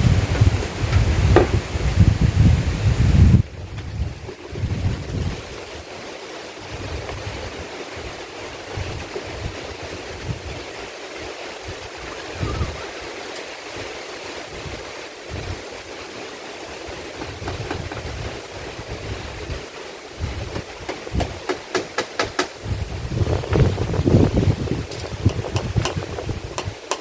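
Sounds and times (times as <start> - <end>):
wind buffeting microphone: 0.0 - 21.6, 22.5 - 26.9
heavy rain in forest: 0.0 - 27.0.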